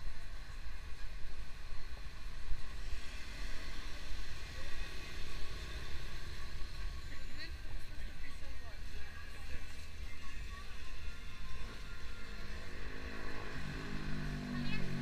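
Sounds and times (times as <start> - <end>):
faint voices of passers-by: 0.0 - 15.0
passing traffic rumble: 0.0 - 15.0.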